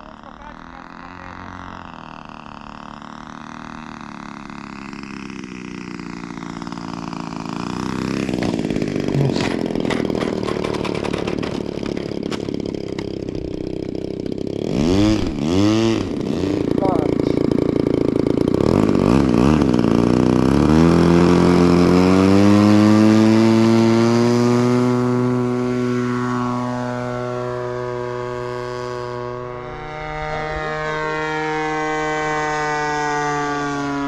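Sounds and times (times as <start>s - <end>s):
model aircraft engines droning: 0.0s - 34.0s.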